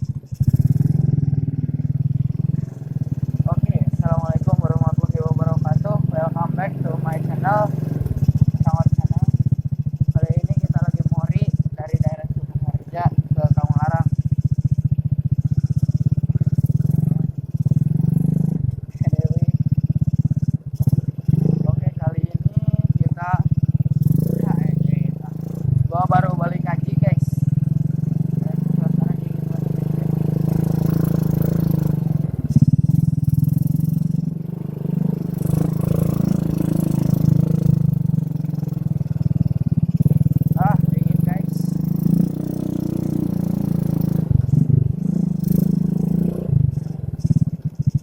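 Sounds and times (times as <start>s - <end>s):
muffled motorcycle engine: 0.0s - 48.0s.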